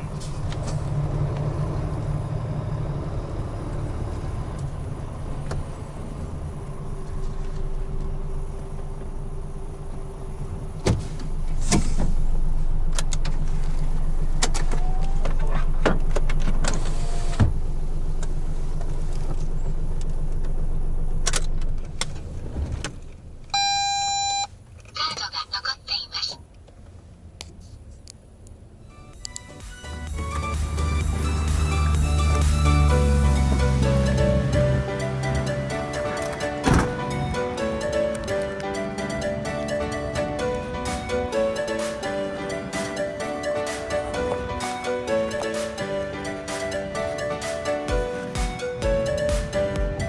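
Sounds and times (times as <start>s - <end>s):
truck diesel engine running: 0.0s - 22.5s, 29.2s - 50.0s.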